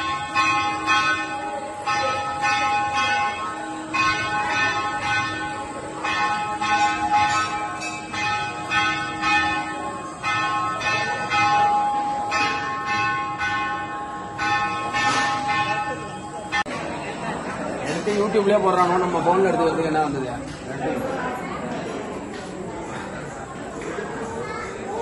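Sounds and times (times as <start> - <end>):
temple bell ringing: 0.0 - 20.2.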